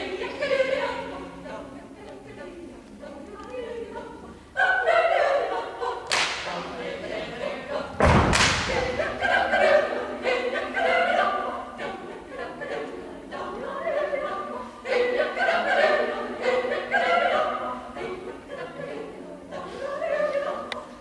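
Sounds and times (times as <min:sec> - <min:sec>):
choir singing a cappella: 0:00.0 - 0:21.0.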